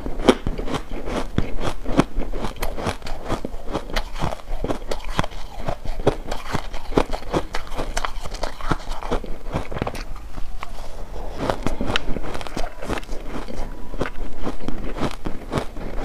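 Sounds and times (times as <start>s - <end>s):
crunching ice bar: 0.2s - 10.7s, 11.3s - 16.0s.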